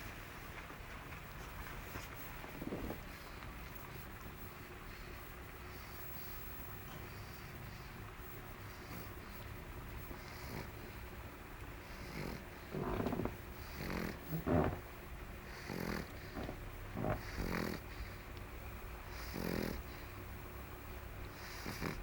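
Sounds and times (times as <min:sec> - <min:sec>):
dog snoring: 0:01.4 - 0:11.2, 0:11.8 - 0:18.2, 0:19.0 - 0:20.2, 0:21.3 - 0:22.0.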